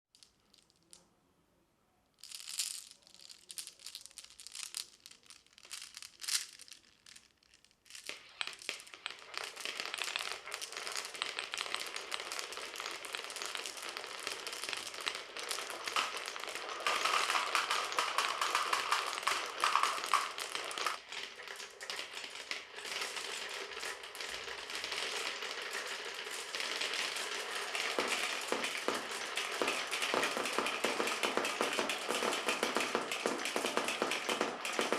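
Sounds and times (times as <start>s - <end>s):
marbles rattling down a marble run: 0.1s - 1.0s, 2.2s - 34.9s.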